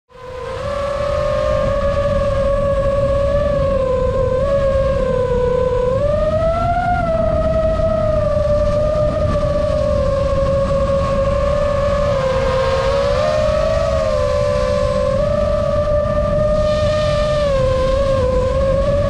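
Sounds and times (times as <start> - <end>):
wind rumble on microphone: 0.1 - 19.0
quadcopter motors whining: 0.2 - 19.0.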